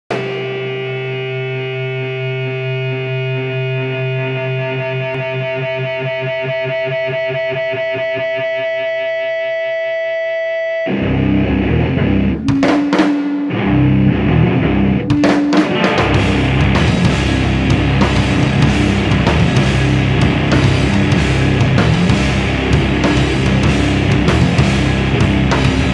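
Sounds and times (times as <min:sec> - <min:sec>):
rock band playing: 0:00.1 - 0:25.9.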